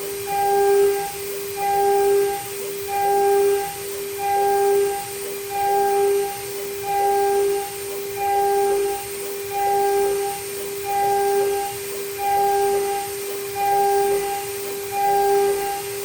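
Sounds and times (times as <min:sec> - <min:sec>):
stepper motors singing tones: 0:00.0 - 0:16.0.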